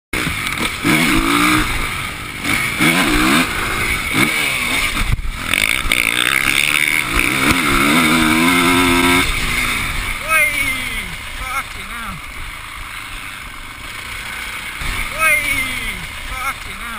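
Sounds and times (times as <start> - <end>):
motocross bike engine revving: 0.2 - 16.9.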